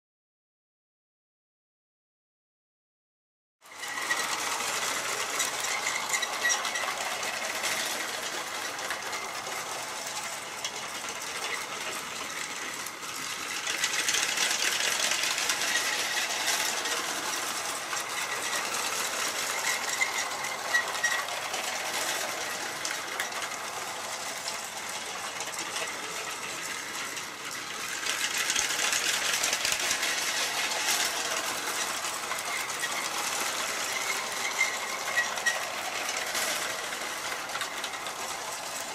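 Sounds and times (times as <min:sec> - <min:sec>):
toy train motor whirring: 0:03.6 - 0:38.9
wheels rattling on plastic track: 0:03.6 - 0:38.9.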